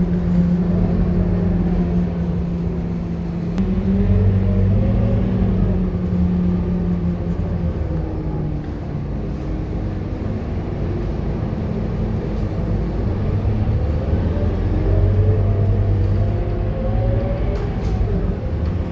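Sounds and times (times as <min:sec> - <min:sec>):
bus diesel engine running: 0:00.0 - 0:18.9.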